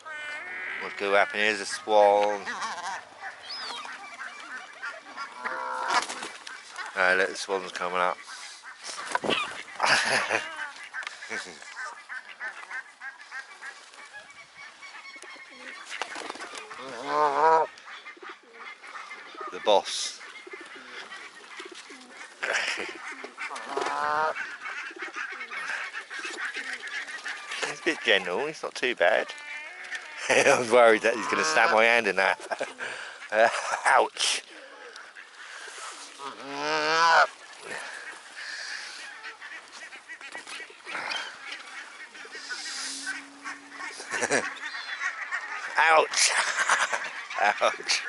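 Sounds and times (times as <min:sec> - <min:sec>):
waterbirds calling: 0:00.0 - 0:48.0.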